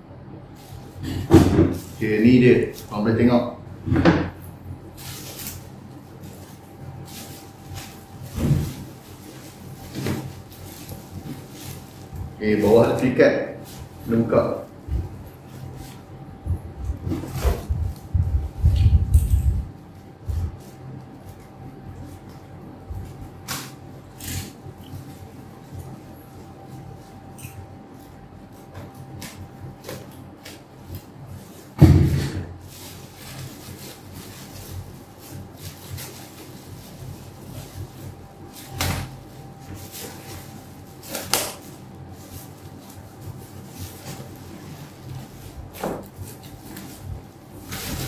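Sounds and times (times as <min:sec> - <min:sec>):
plastic bag rustling: 0:00.6 - 0:03.4, 0:04.3 - 0:48.0.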